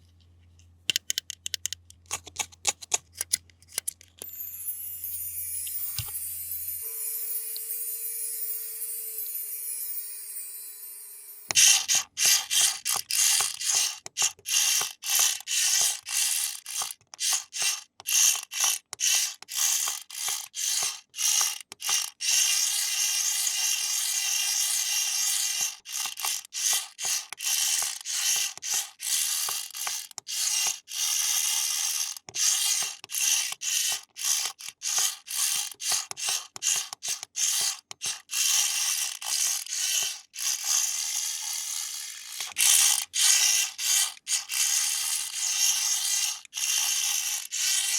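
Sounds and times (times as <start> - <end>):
toy car motor whirring: 0.9 - 47.9.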